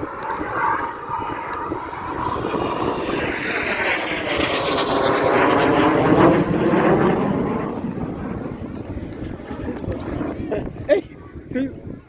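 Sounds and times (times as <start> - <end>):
jet aircraft passing overhead: 0.0 - 11.9.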